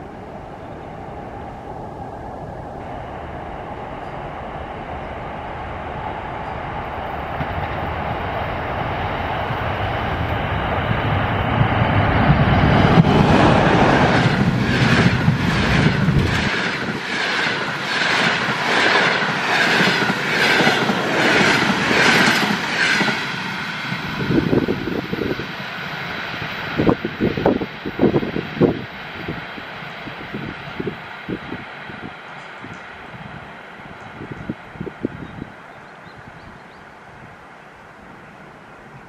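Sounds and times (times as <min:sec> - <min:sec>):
electric locomotive passing: 0:00.0 - 0:39.0.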